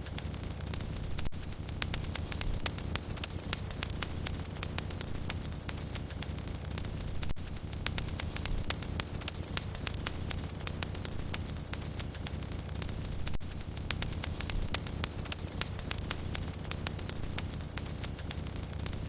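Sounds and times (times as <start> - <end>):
low rumble of burning: 0.0 - 19.0
sharp pops of fire: 0.0 - 19.0
wood fire crackling: 0.0 - 19.0.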